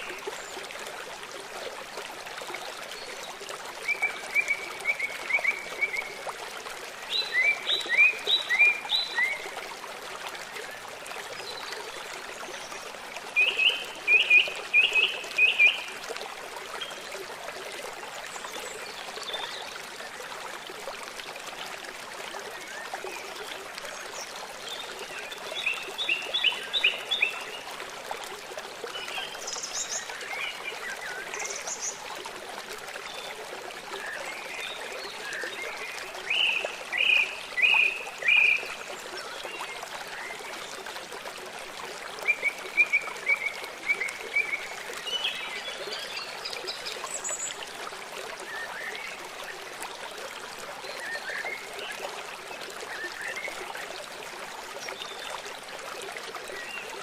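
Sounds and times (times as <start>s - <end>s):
trickling stream: 0.0s - 57.0s.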